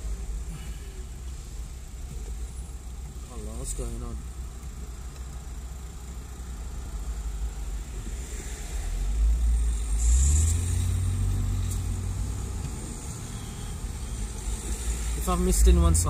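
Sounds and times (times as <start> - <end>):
car engine: 0.0 - 16.0
road noise: 0.0 - 16.0.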